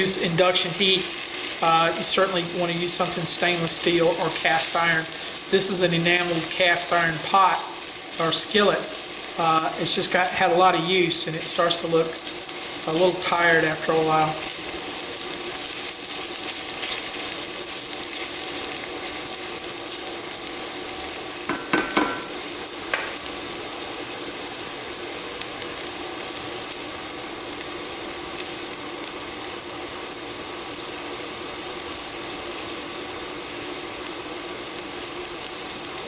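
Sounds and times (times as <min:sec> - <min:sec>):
vegetables sizzling in a skillet: 0:00.0 - 0:36.0.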